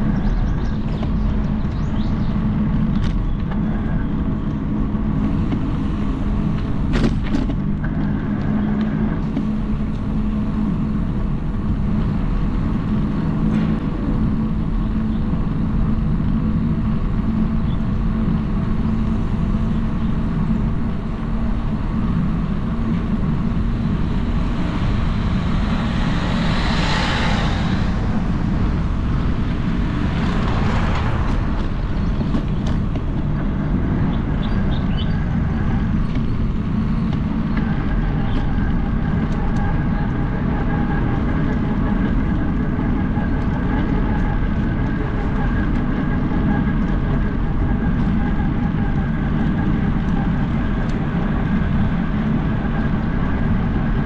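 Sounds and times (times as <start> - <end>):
road vehicle rumble: 0.0 - 54.0.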